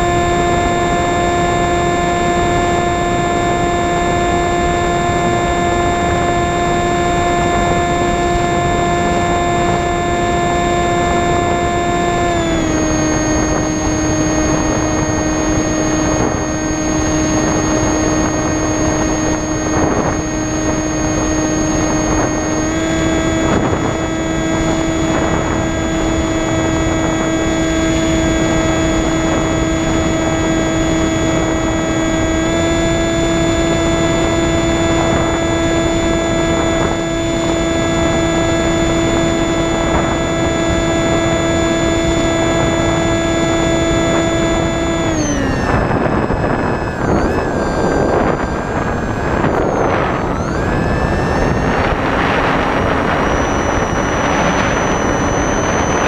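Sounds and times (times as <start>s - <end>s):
model plane motor whining: 0.0s - 56.0s.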